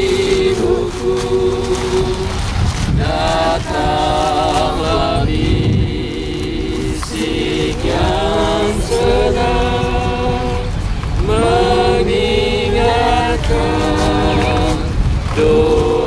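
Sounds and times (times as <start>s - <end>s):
group singing: 0.0s - 16.0s.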